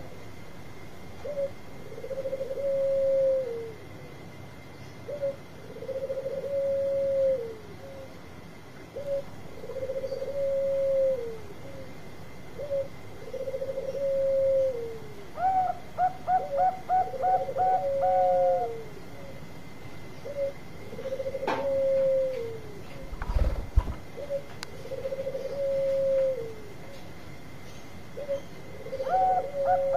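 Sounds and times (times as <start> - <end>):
higher dove coo: 1.2 - 3.9, 5.1 - 8.2, 8.9 - 19.5, 20.2 - 27.1, 28.1 - 29.9
dove cooing: 1.2 - 4.0, 5.0 - 27.0, 28.1 - 29.9.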